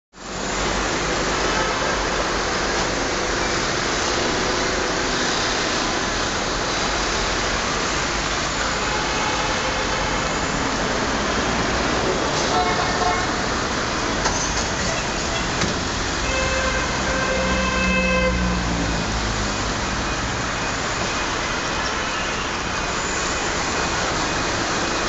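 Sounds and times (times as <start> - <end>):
street traffic: 0.1 - 25.0.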